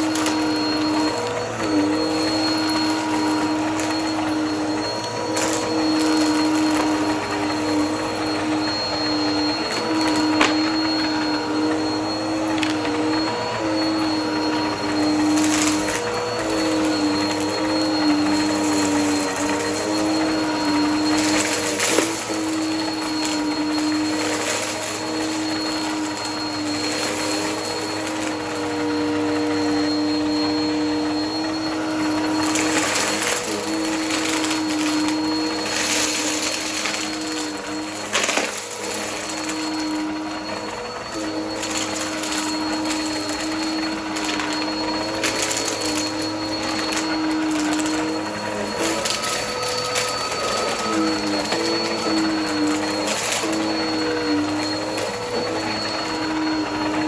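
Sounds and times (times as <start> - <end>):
vacuum cleaner motor hum: 0.0 - 57.0.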